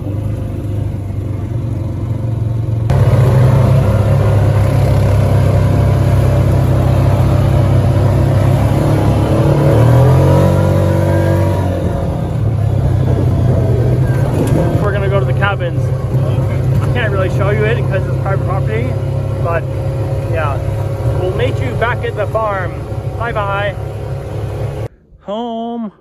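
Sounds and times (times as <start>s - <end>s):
quad engine revving: 0.0s - 24.9s.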